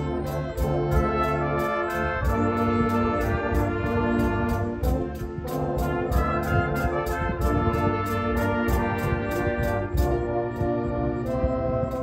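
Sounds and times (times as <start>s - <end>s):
brass chords: 0.0s - 12.0s
concert band playing: 0.0s - 12.0s
light percussion beat: 0.0s - 12.0s.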